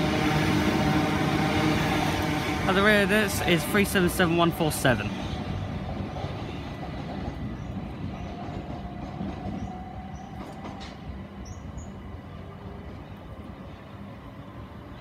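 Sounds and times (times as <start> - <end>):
electric train wheels rumbling: 0.0 - 15.0.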